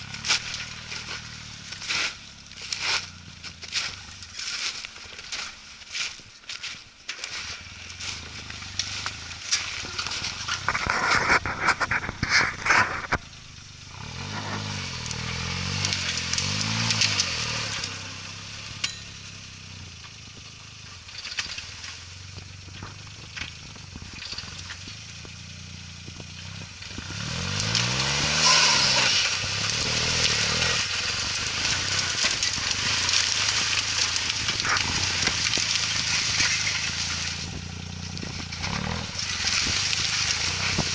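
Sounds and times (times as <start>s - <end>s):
tyres crunching through snow: 0.0s - 40.9s
car engine revving: 8.0s - 40.9s.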